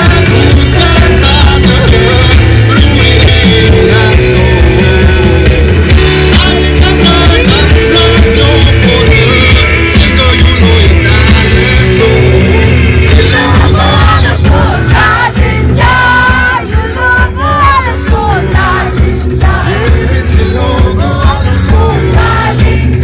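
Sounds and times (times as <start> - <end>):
live rock band playing: 0.0 - 23.0
man singing lead vocals: 0.0 - 23.0.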